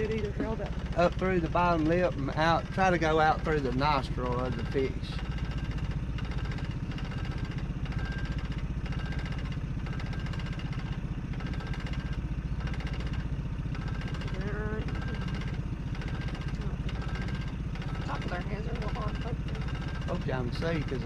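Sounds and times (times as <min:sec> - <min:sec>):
outboard motor idling: 0:00.0 - 0:21.0.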